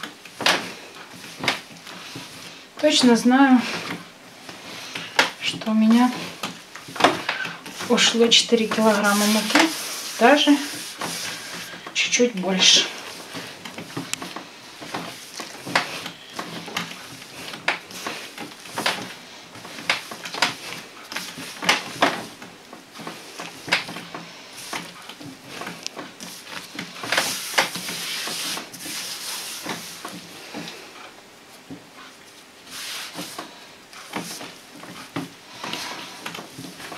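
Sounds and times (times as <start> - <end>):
hands kneading dough: 0.0 - 36.9.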